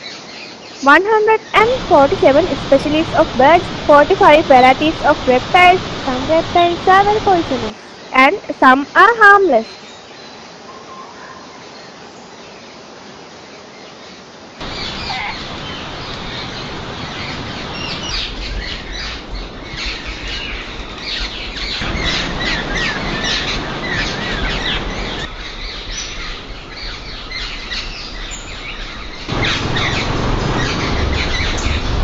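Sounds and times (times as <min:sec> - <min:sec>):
birds chirping: 0:00.0 - 0:12.7, 0:13.5 - 0:32.0
forest background hiss: 0:00.0 - 0:32.0.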